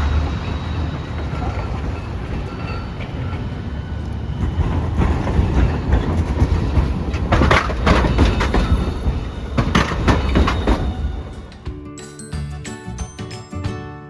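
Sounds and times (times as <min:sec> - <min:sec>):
streetcar rumbling past: 0:00.0 - 0:11.8
wheels clacking over track: 0:00.0 - 0:11.8.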